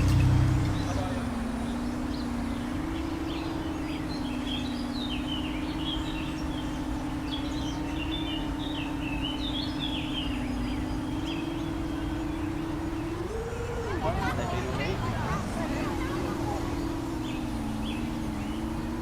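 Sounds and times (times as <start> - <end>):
birds chirping: 0.0 - 19.0
quadcopter motors buzzing: 0.0 - 19.0.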